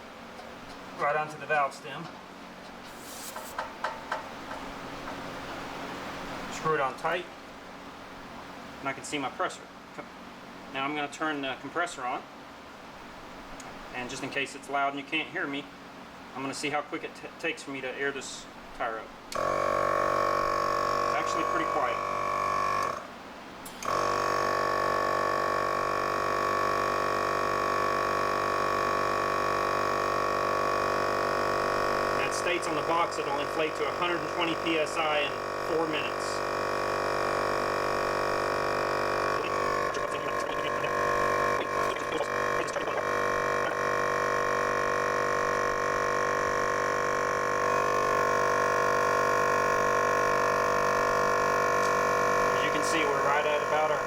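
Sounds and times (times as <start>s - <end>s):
air compressor humming: 0.0s - 9.3s, 18.3s - 54.0s.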